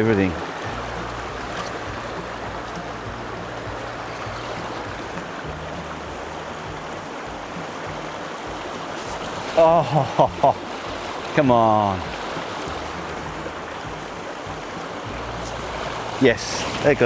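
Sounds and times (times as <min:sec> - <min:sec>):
fast-flowing mountain stream: 0:00.0 - 0:17.0.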